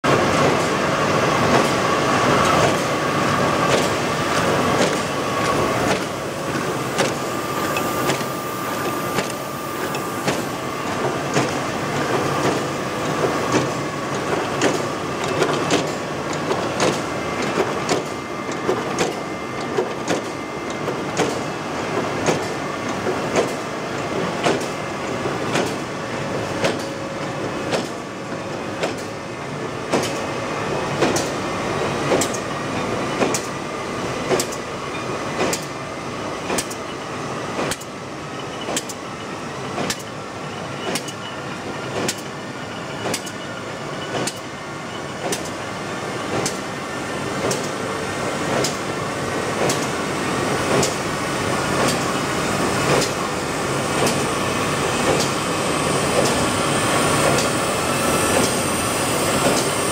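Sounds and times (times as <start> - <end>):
printing press clatter: 0.1 - 33.6, 34.2 - 35.8, 36.4 - 36.8, 37.5 - 47.8, 48.4 - 59.9.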